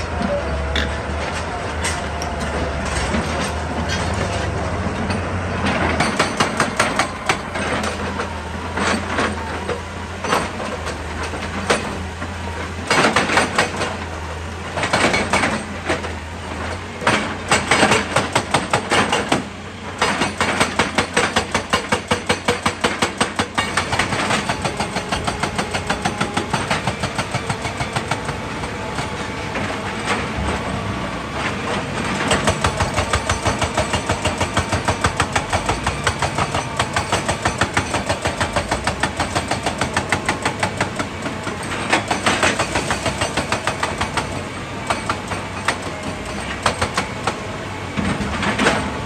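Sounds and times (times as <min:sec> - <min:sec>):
diesel engine humming: 0:00.0 - 0:49.0
metal clanks and rattles: 0:00.2 - 0:49.0.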